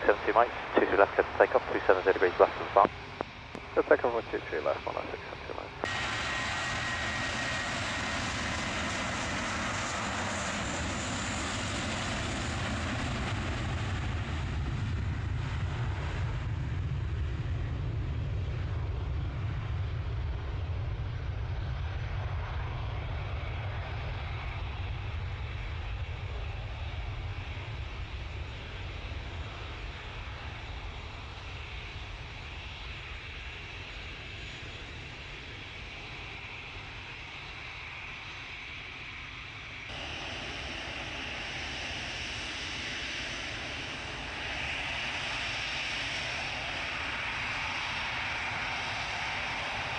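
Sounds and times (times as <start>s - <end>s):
airliner engines roaring at takeoff: 0.0s - 49.9s.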